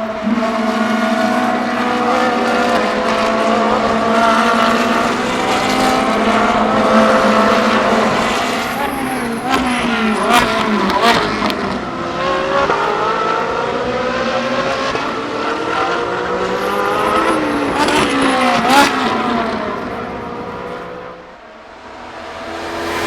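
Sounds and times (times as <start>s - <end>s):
race car engines at full throttle: 0.0s - 23.0s
race car passing close: 0.0s - 23.0s.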